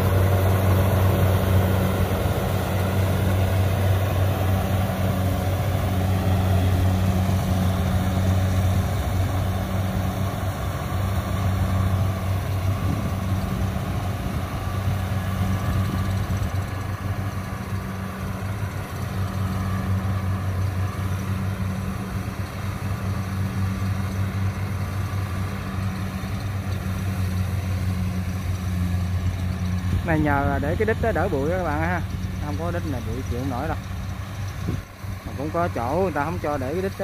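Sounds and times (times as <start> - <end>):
combine harvester diesel engine: 0.0 - 37.0.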